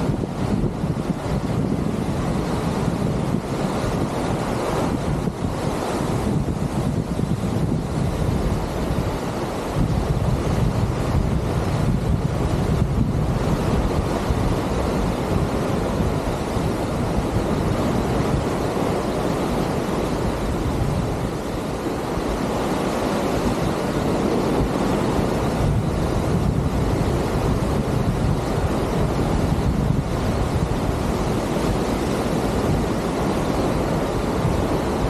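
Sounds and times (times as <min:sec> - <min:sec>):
sea water rushing along hull: 0:00.0 - 0:35.0
wind buffeting microphone: 0:00.0 - 0:35.0.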